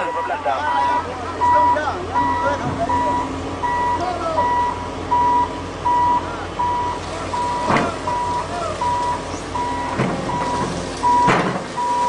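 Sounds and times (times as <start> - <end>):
backup alarm beeping: 0.0 - 12.0
diesel engine hum: 0.0 - 12.0.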